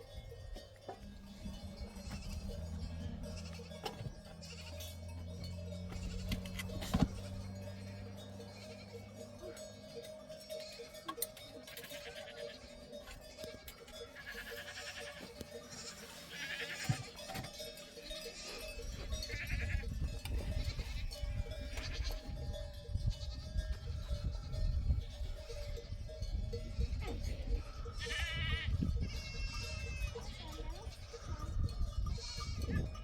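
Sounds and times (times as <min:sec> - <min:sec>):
goats and sheep bleating: 0:00.0 - 0:33.0.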